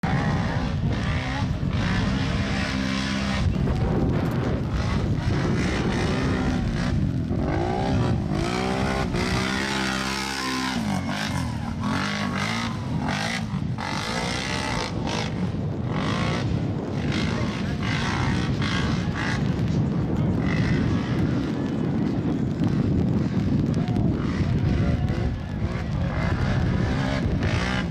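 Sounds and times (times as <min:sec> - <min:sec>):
atv engines revving and passing: 0:00.0 - 0:27.9.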